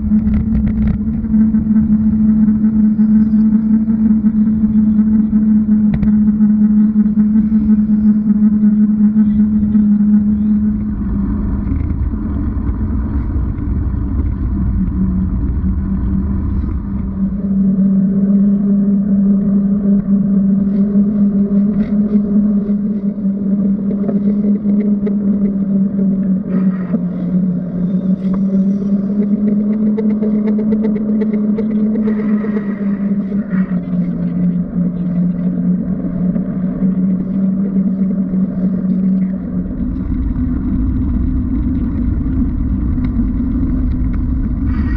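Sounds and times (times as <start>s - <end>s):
muffled wind and road droning: 0.0s - 44.9s.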